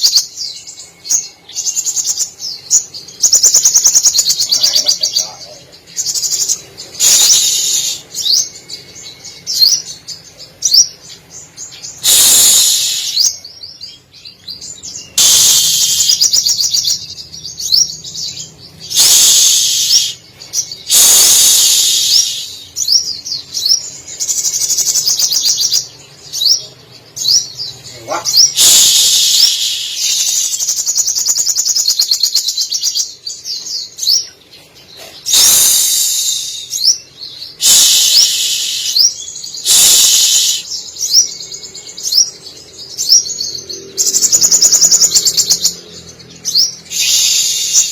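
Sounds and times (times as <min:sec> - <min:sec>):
bird singing loudly: 0:00.0 - 0:47.9
sharp down-slurred bird chirps: 0:00.0 - 0:47.9.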